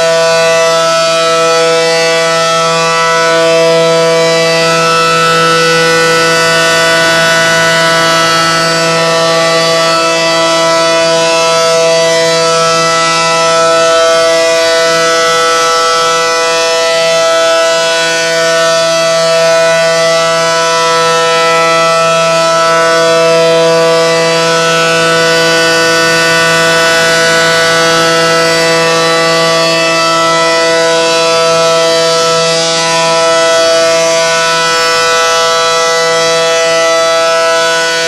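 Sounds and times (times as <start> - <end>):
warning siren steady tone: 0.0 - 38.0.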